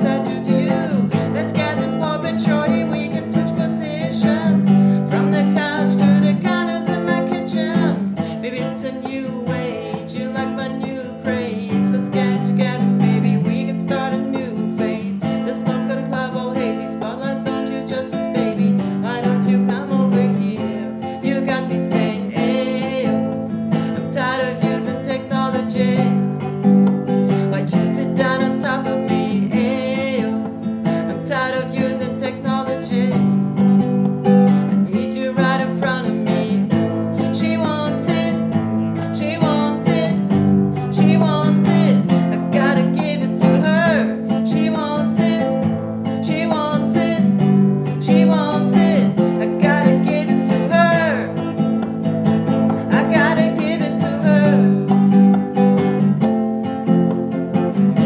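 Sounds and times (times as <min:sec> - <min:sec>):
person singing: 0:00.0 - 0:56.3
acoustic guitar strumming: 0:00.0 - 0:58.0.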